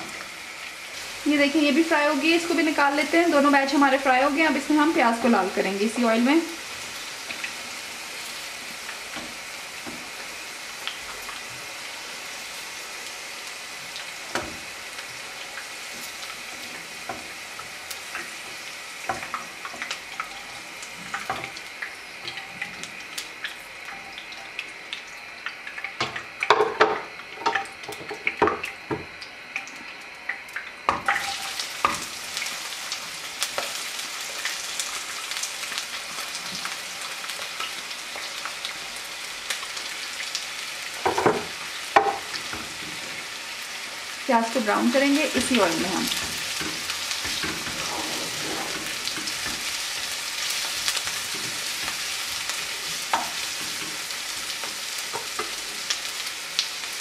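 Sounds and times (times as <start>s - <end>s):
hot oil sizzling and crackling: 0.0s - 57.0s.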